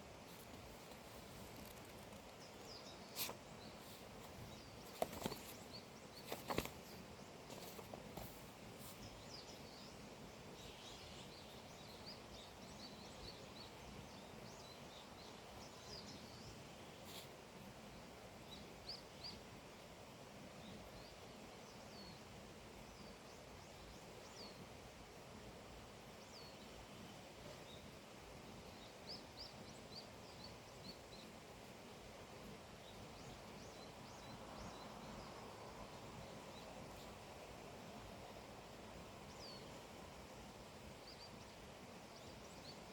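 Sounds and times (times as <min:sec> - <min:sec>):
faint songbirds chirping: 0:00.0 - 0:42.9
steady outdoor hiss: 0:00.0 - 0:42.9.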